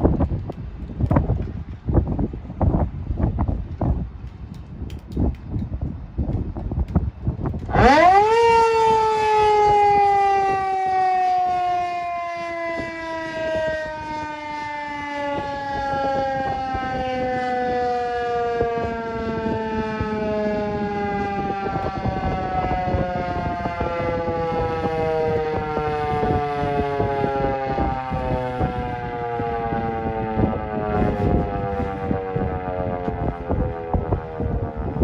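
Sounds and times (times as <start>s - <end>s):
rotating warning siren wailing: 6.9s - 35.0s.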